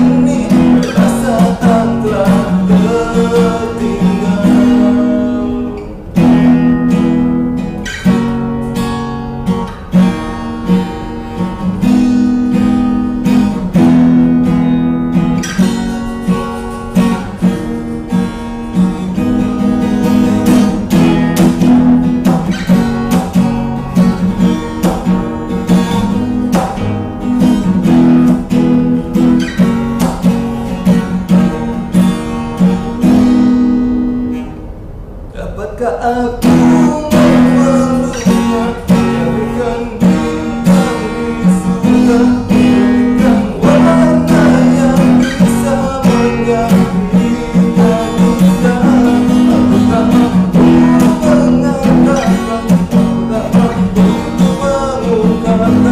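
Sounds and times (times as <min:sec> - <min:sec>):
acoustic guitar strumming: 0:00.0 - 0:55.9.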